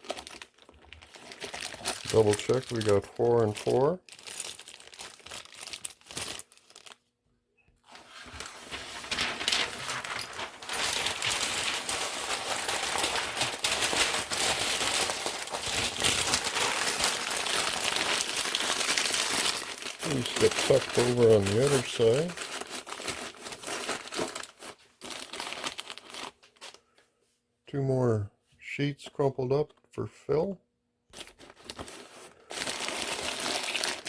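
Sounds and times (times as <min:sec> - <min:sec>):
packing paper crinkling: 0:00.0 - 0:07.1, 0:07.8 - 0:26.8, 0:31.2 - 0:34.0.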